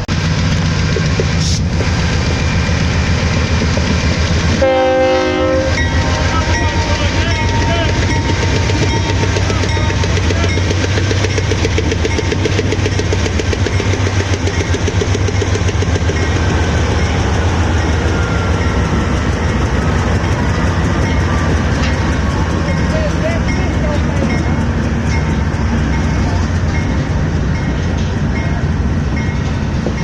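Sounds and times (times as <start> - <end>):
diesel locomotive engine throbbing: 0.0 - 30.0.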